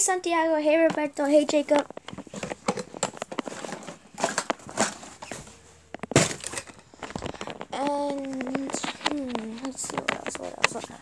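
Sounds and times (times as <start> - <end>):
camera handling rustling: 1.8 - 10.8.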